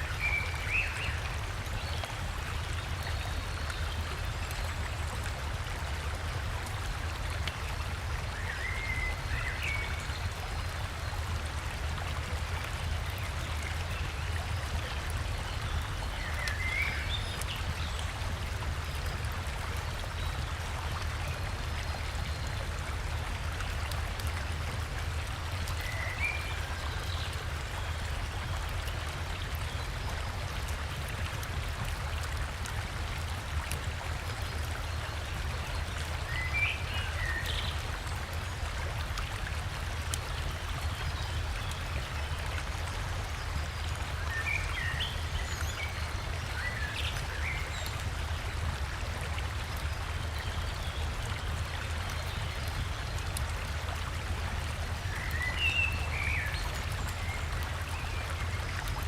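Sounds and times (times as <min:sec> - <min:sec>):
small waterfall: 0:00.0 - 0:59.0.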